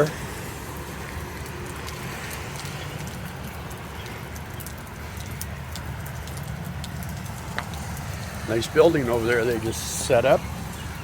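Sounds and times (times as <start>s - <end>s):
heavy rain falling: 0.0s - 11.0s
raindrops ticking: 0.0s - 11.0s.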